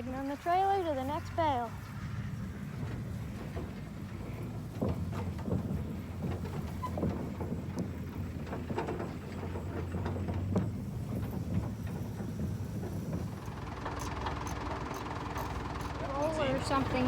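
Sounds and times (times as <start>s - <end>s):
trailer rattling and knocking: 0.0s - 17.0s
vehicle engine running: 0.0s - 17.0s.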